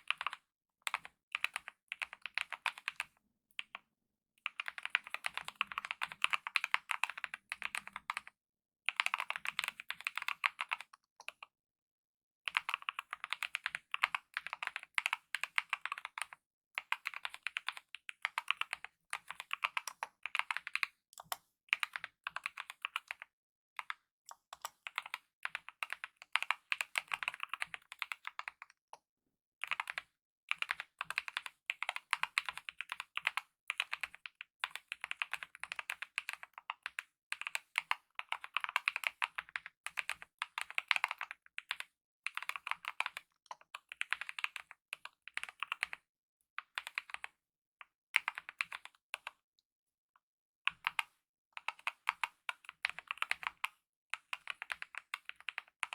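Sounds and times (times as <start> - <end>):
fast typing on mechanical keyboard: 0.1 - 3.1, 4.5 - 8.3, 8.9 - 10.9, 12.5 - 23.2, 24.6 - 28.6, 29.6 - 46.0, 46.7 - 47.3, 48.2 - 49.0, 50.7 - 55.9.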